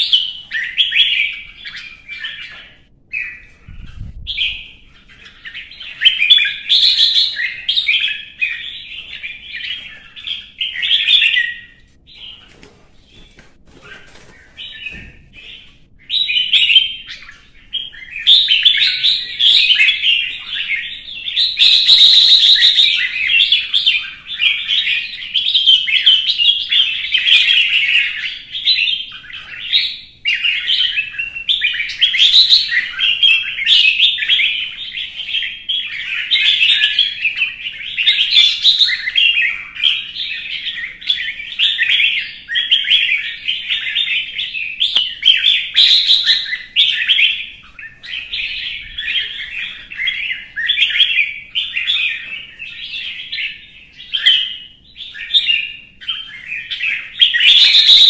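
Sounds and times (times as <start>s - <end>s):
bird chattering song: 0.0s - 12.5s, 13.1s - 58.0s.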